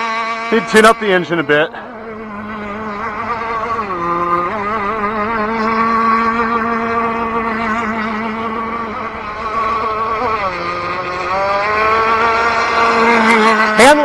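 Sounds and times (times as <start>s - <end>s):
model boat engine running: 0.0s - 14.0s.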